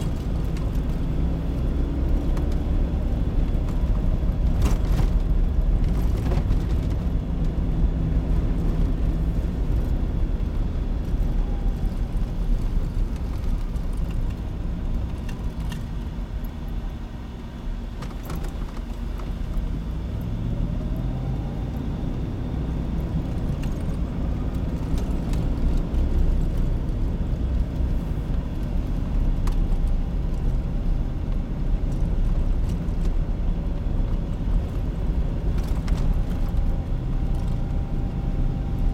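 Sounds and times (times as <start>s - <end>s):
engine and tyre rumble: 0.0s - 38.9s.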